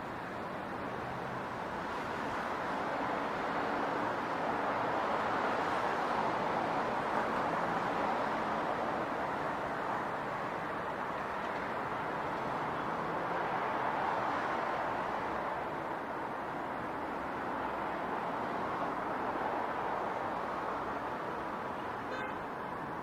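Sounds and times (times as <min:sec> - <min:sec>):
city traffic: 0:00.0 - 0:23.0.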